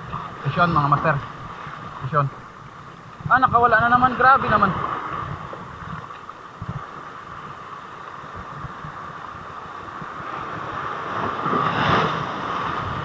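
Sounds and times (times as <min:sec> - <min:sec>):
sea water splashing against boat: 0:00.0 - 0:13.0
wind on microphone: 0:00.0 - 0:13.0.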